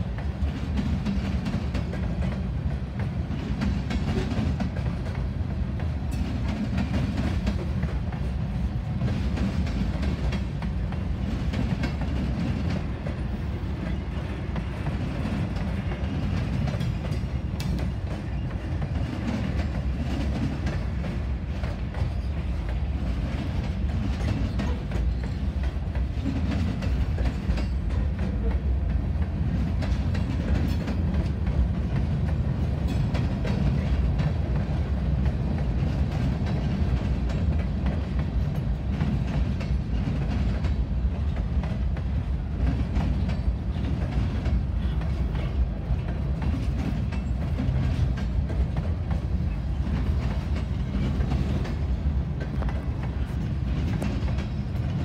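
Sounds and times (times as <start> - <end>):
train wheels rumbling on rails: 0.0 - 55.0
wheels clicking over rail joints: 0.0 - 55.0.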